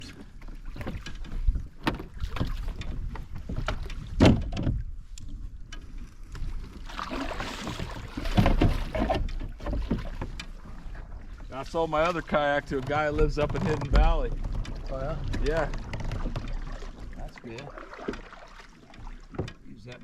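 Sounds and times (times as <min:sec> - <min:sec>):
kayak knocks and thumps: 0:00.0 - 0:20.0.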